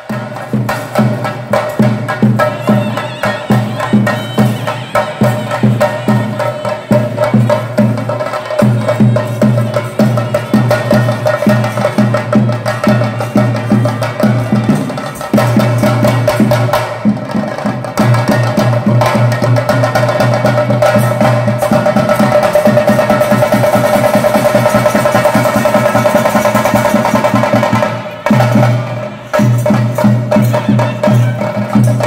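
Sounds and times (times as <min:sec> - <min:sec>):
drums beaten with sticks: 0:00.0 - 0:32.0.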